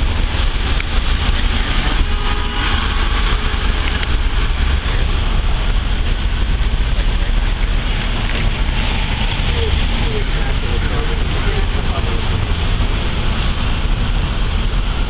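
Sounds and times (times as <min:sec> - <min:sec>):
passing street traffic: 0:00.0 - 0:15.0
vehicle engines idling: 0:00.0 - 0:15.0.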